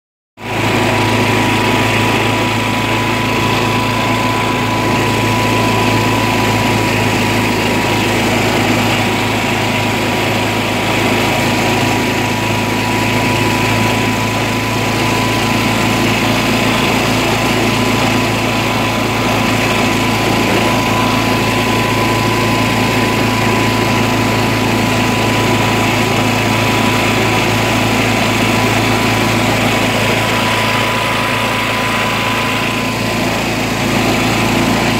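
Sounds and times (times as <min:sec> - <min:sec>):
lawn tractor engine running: 0:00.4 - 0:34.9
high whine: 0:00.7 - 0:34.9.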